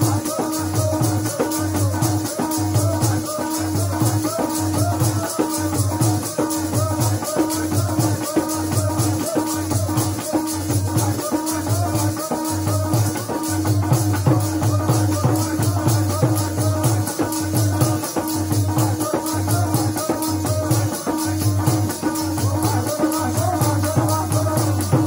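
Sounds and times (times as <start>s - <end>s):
fast percussion strokes: 0.0s - 25.0s.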